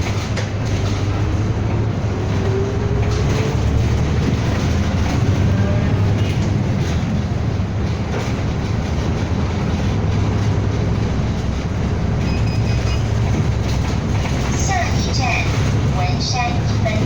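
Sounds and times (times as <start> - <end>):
bus engine drone: 0.0 - 17.0
road and cabin noise: 0.0 - 17.0.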